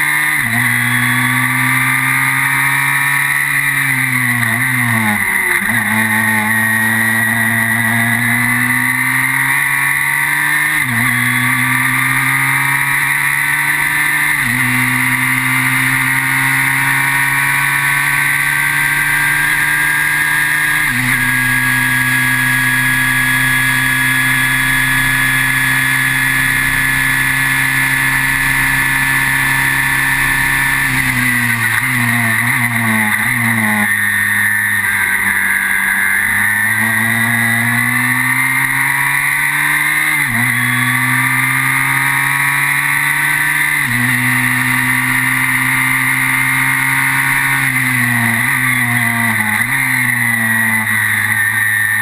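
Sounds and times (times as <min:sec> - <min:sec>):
racing car engine revving: 0:00.0 - 0:52.0.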